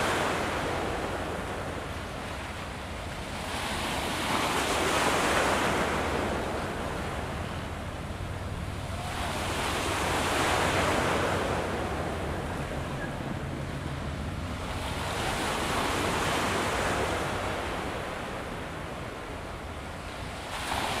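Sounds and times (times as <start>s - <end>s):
waves washing against rocks: 0.0s - 21.0s.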